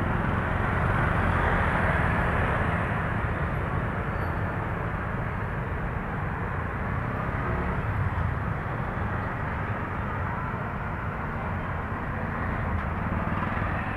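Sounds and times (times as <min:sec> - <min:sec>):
street background rumble: 0:00.0 - 0:13.9.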